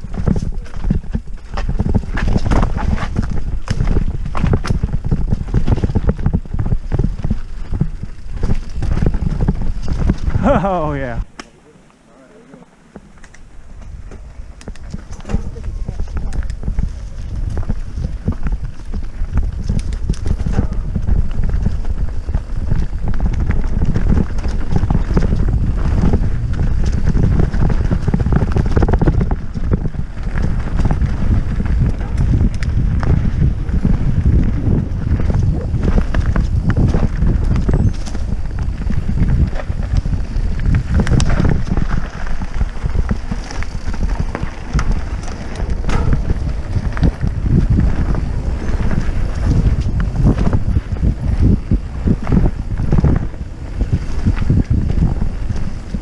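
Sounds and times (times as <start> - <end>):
mountain bike rattling over rocks: 0.0 - 11.2, 13.0 - 56.0
wind buffeting microphone: 0.0 - 11.3, 12.9 - 56.0.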